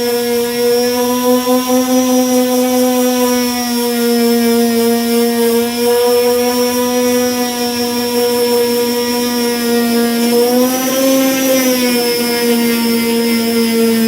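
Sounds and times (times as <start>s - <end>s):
electric disc sander whining: 0.0s - 14.0s.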